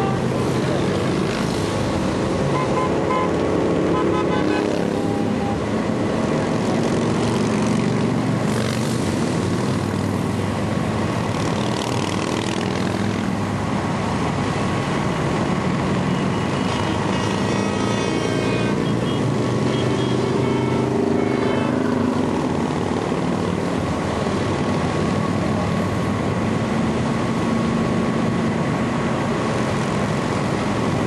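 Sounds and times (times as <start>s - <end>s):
motorcycles passing: 0.0s - 31.0s.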